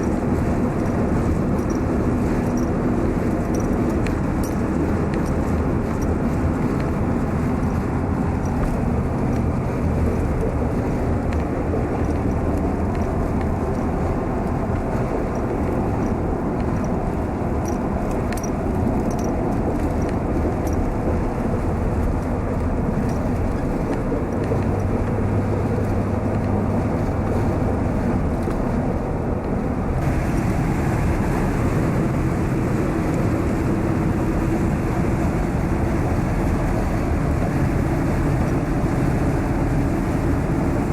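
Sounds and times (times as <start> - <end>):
car engine and tyre hum: 0.0 - 40.9.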